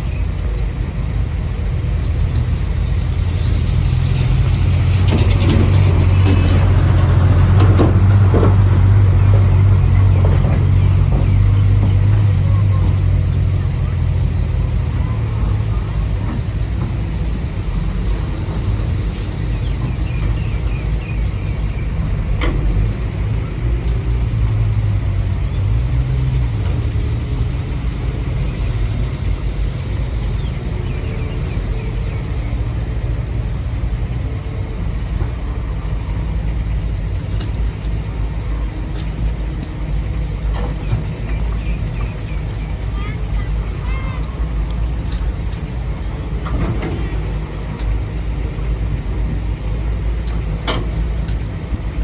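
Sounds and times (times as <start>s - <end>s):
construction machinery engine rumble: 0.0s - 52.0s.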